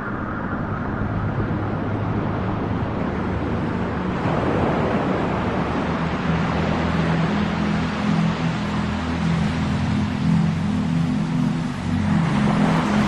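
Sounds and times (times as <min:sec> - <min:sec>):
low sustained drone: 0:00.0 - 0:13.0
steady rushing noise: 0:00.0 - 0:13.0.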